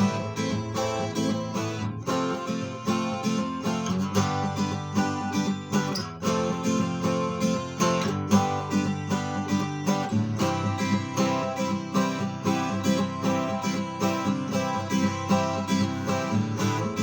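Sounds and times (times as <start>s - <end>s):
acoustic guitar strummed chords: 0.0s - 17.0s.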